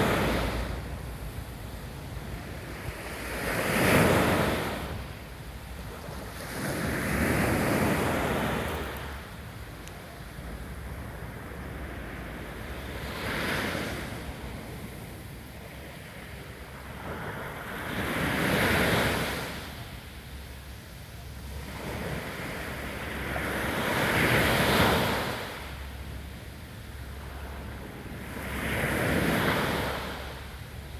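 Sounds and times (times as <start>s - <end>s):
waves washing up a sandy beach: 0.0s - 30.9s.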